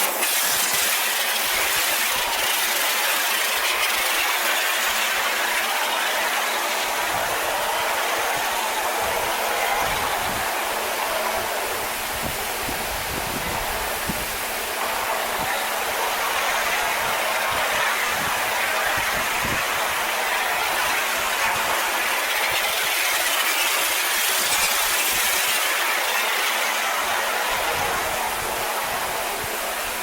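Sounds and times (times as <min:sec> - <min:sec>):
pressure washer spray on metal: 0:00.0 - 0:30.0.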